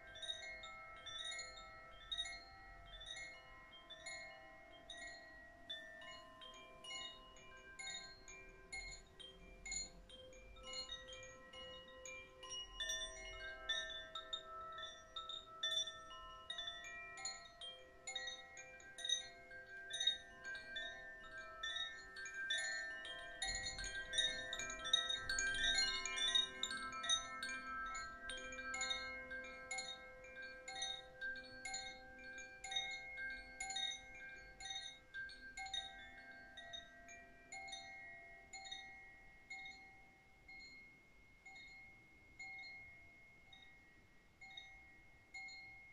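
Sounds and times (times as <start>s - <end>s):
wind chime tinkling: 0.0s - 45.9s.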